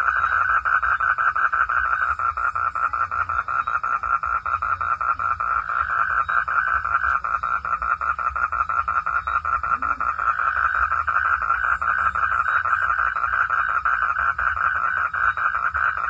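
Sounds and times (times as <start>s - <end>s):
frog trilling: 0.0s - 16.0s.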